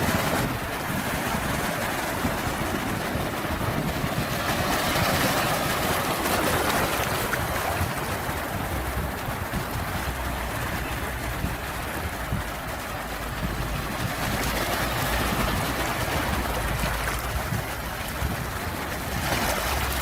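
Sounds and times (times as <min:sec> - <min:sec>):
sea waves: 0:00.0 - 0:20.0.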